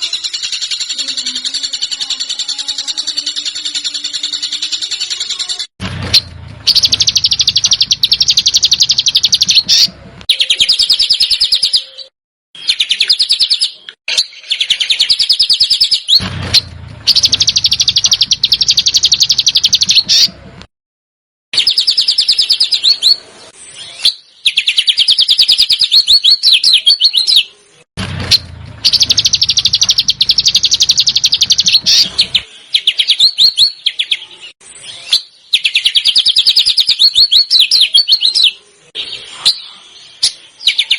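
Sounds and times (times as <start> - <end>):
songbird rasping song: 0.0 - 20.4, 21.6 - 40.9.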